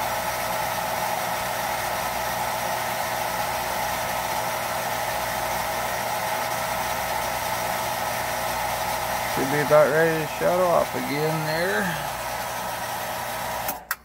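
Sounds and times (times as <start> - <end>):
pump motor humming: 0.0 - 14.0.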